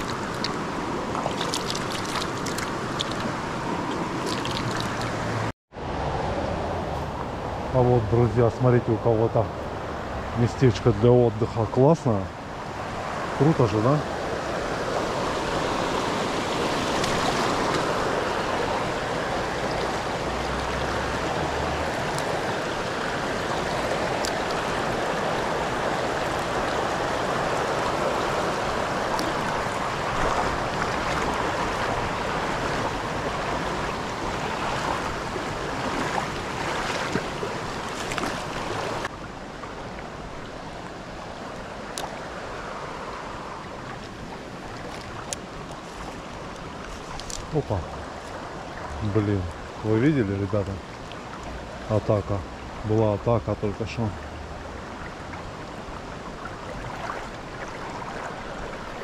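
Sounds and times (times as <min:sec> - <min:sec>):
river water rushing over rocks: 0:00.0 - 0:07.6, 0:12.0 - 0:59.0.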